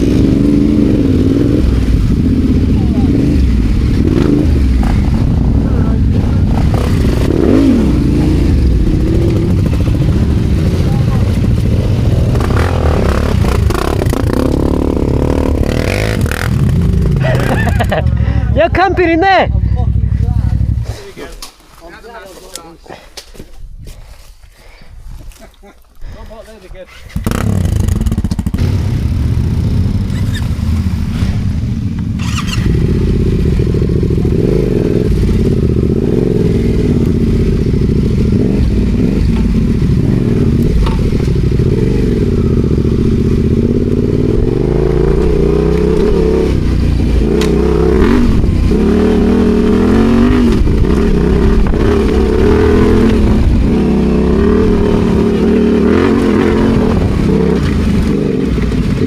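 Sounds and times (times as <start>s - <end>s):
motorcycle engine revving: 0.0s - 21.1s, 27.1s - 59.0s.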